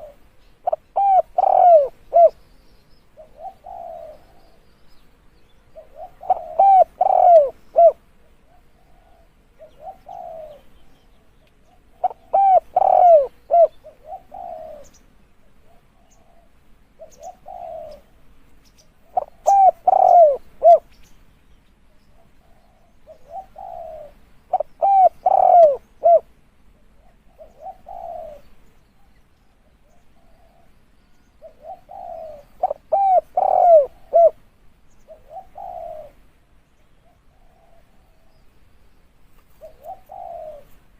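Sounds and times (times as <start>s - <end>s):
dove cooing: 0.0s - 2.4s, 3.1s - 4.7s, 5.7s - 18.2s, 19.0s - 21.0s, 22.0s - 38.5s, 39.4s - 40.9s.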